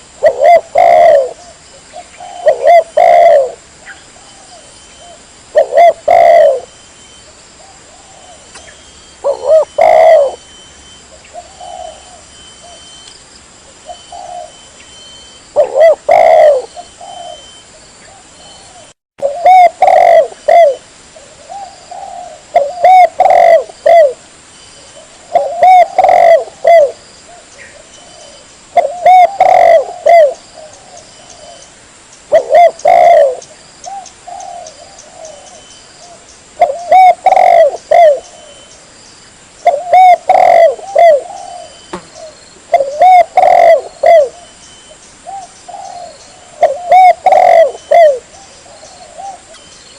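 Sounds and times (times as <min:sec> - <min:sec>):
dove cooing: 0:00.0 - 0:10.6, 0:11.2 - 0:13.0, 0:13.8 - 0:14.7, 0:15.5 - 0:24.2, 0:24.8 - 0:31.7, 0:32.3 - 0:38.7, 0:39.6 - 0:49.9.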